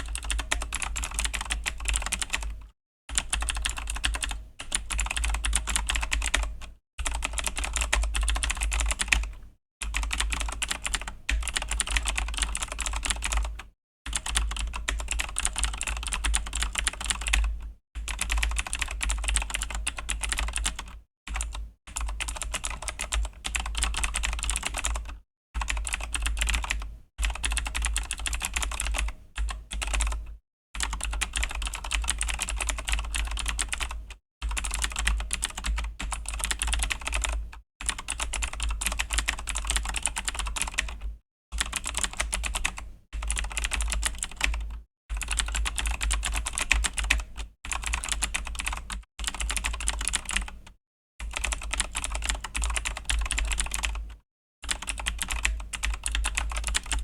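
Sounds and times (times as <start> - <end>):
mechanical keyboard typing: 0.0 - 54.1, 54.7 - 57.0.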